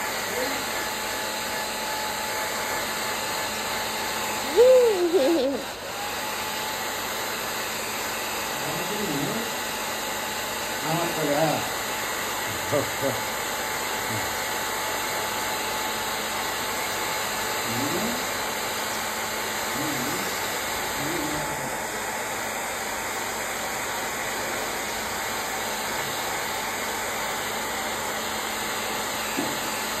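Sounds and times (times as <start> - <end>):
hair dryer blowing: 0.0 - 30.0.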